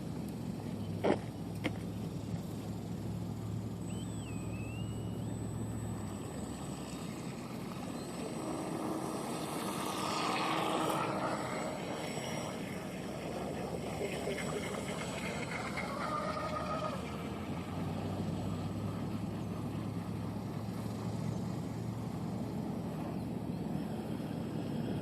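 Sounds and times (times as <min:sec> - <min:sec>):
boat hull and water noise: 0:00.0 - 0:25.0
high electric motor whine: 0:01.5 - 0:25.0.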